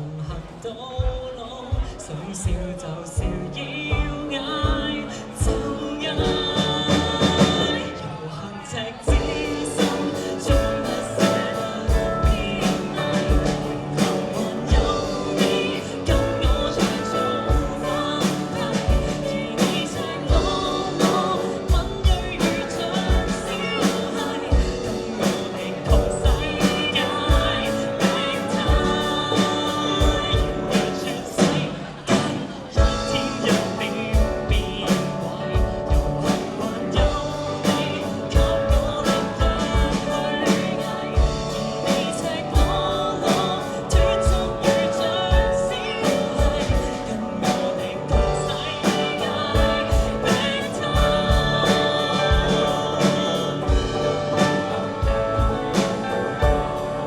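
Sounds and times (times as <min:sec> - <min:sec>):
live pop-rock band playing: 0:00.0 - 0:57.0
person singing: 0:00.0 - 0:57.0.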